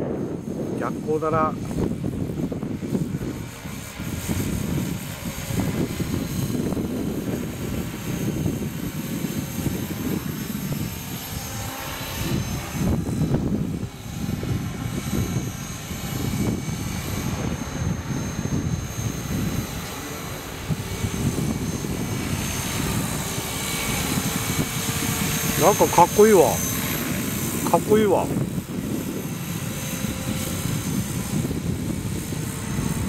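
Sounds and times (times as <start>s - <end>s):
gusty low rumble: 0.0s - 33.0s
model helicopter engine and rotor whine: 0.0s - 33.0s.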